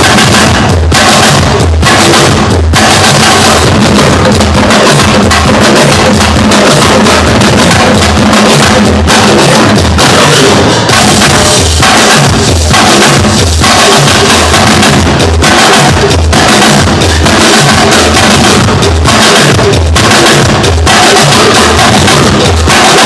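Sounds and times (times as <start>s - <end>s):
bass drum thumping: 0.0s - 23.0s
loud music with drum beat: 0.0s - 23.0s.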